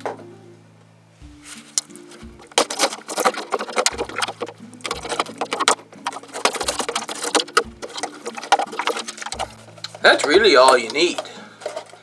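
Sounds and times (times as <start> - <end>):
plastic crackling: 1.6 - 12.0.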